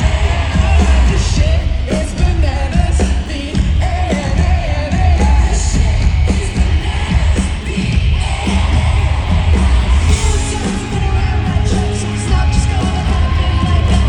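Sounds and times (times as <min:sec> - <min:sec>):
live band playing pop-rock: 0:00.0 - 0:14.0
person singing: 0:00.0 - 0:14.0.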